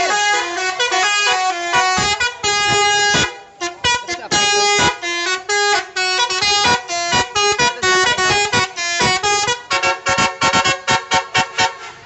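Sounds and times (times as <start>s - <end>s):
musical bus horn playing a tune: 0.0s - 12.0s.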